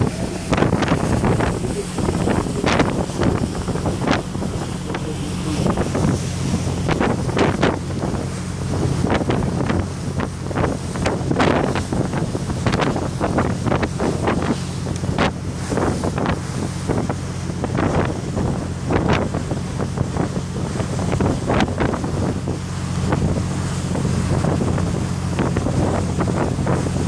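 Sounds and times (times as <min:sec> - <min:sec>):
boat engine drone: 0:00.0 - 0:27.0
wind buffeting microphone: 0:00.0 - 0:27.0.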